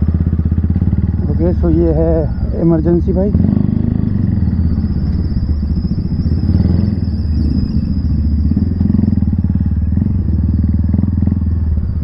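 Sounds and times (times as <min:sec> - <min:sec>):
motorcycle engine running: 0:00.0 - 0:12.0
thin high whine: 0:01.2 - 0:12.0.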